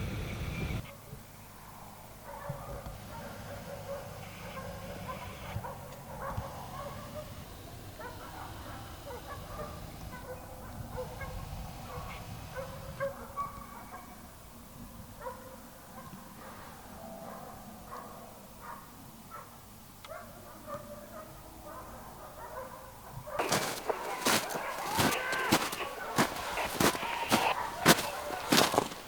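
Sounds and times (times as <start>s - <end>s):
dogs barking and yelping: 0.8s - 14.3s, 15.0s - 29.0s.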